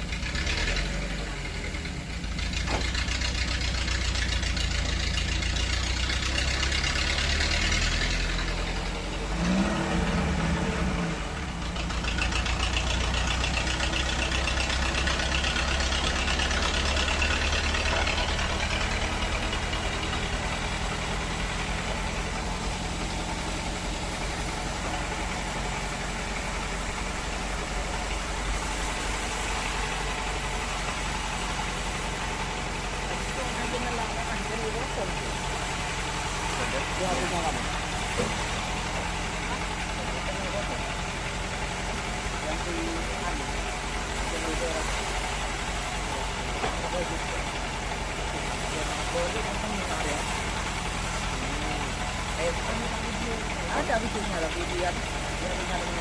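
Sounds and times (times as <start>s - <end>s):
sawmill engine humming: 0.0s - 56.0s.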